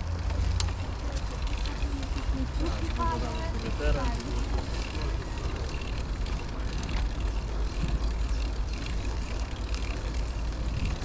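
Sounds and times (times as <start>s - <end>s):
low rumble of riding noise: 0.0s - 11.0s
wind buffeting microphone: 1.4s - 11.0s.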